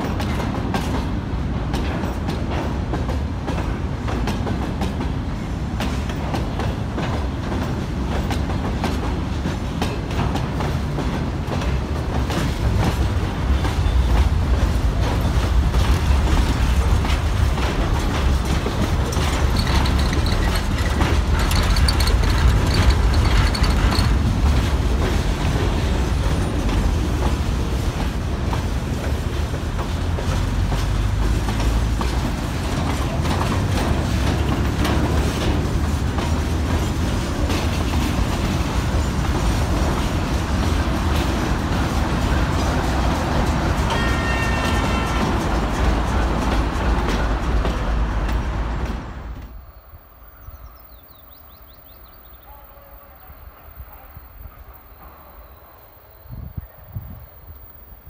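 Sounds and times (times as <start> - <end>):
train wheels clattering over rail joints: 0.0 - 49.7.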